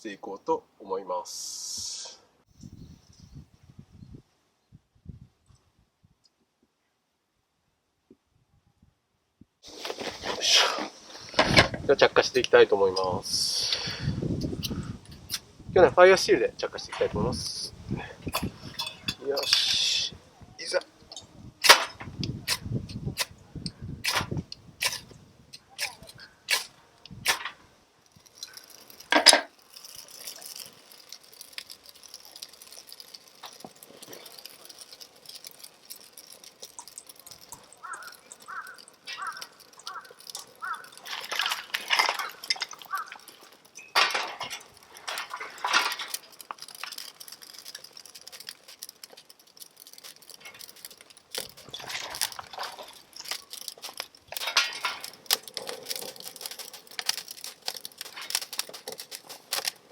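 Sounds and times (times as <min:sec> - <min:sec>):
fire steel scraping: 0:09.6 - 0:59.9.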